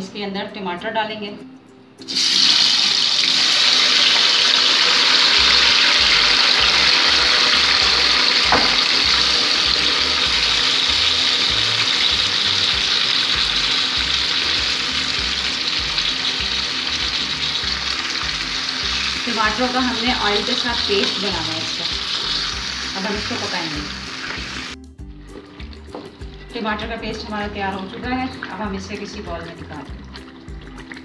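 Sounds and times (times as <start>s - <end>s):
tomatoes sizzling in hot oil: 2.0s - 31.0s.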